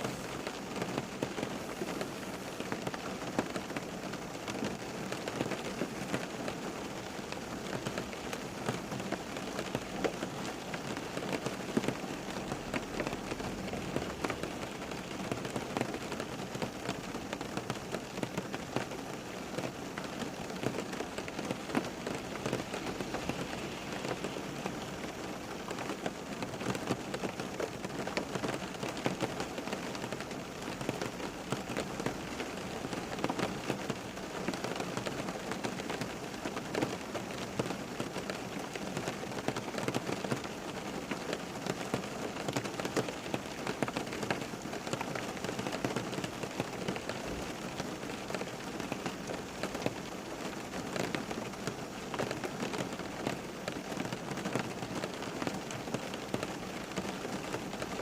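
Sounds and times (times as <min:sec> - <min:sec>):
raindrops striking a surface: 0:00.0 - 0:58.0
steady rain falling: 0:00.0 - 0:58.0.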